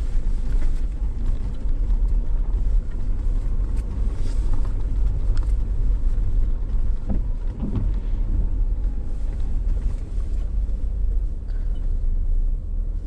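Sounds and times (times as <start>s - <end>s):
vehicle rumbling over bumpy road: 0.0s - 13.0s.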